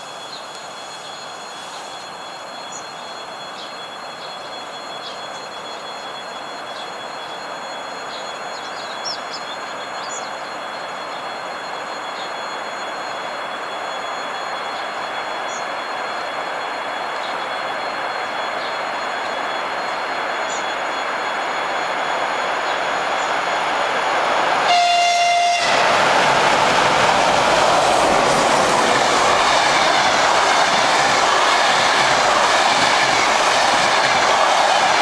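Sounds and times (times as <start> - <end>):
distant train rumbling: 0.6 - 35.0.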